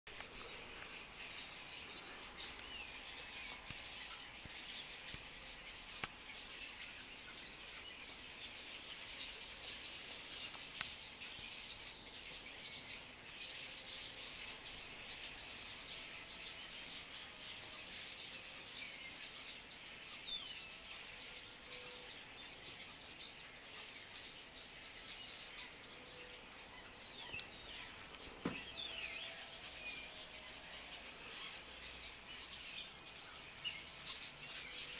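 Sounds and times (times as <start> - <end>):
starlings chattering: 0.1 - 34.9.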